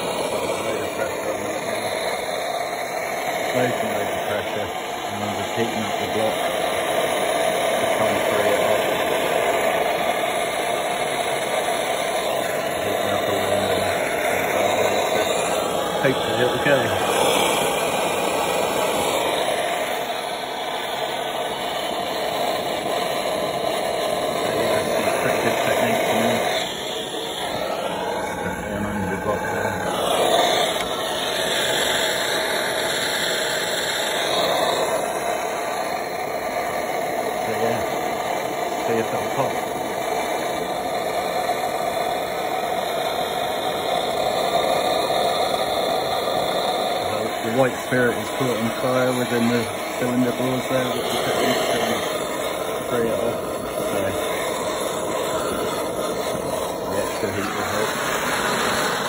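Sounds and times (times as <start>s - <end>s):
gas torch hissing: 0.0s - 59.0s.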